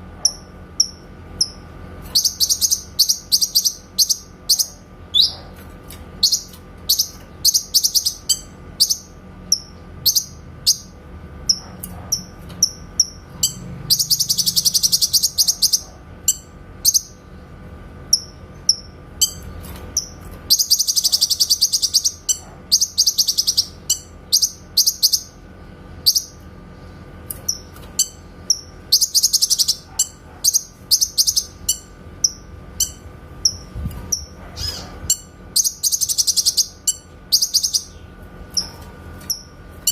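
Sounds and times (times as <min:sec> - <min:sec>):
bird chattering trill: 0:00.2 - 0:05.6, 0:06.2 - 0:17.2, 0:20.0 - 0:25.4, 0:26.0 - 0:26.4, 0:27.4 - 0:39.9.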